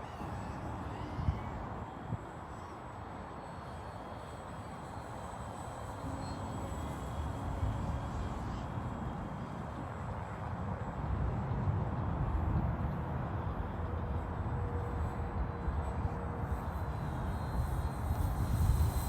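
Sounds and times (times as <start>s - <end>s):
electric motor high whine: 0.0s - 12.2s, 13.5s - 19.0s.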